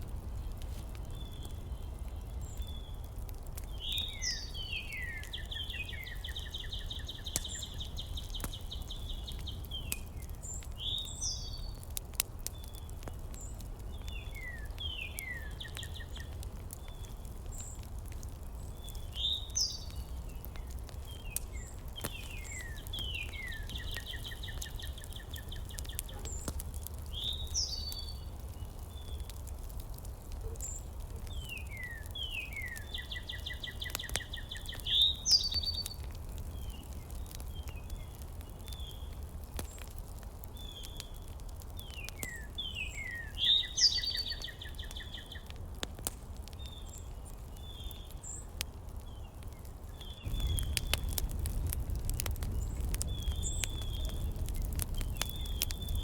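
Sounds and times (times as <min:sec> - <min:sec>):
songbird singing: 0:00.3 - 0:39.9, 0:40.6 - 0:45.6, 0:46.6 - 0:56.0.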